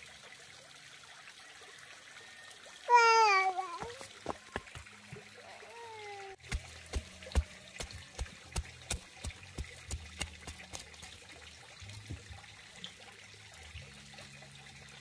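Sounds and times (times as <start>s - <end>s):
water dripping: 0.0s - 15.0s.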